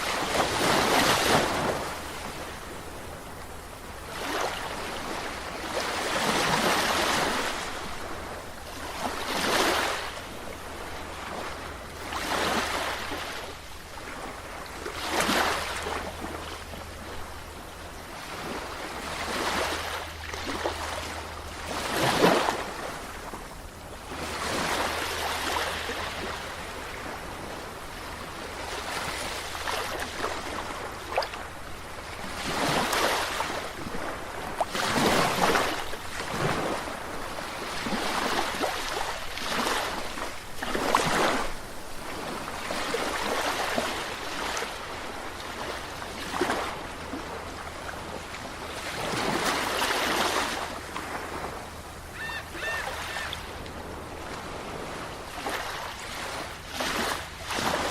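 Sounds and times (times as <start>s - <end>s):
sea waves washing ashore: 0.0s - 57.9s.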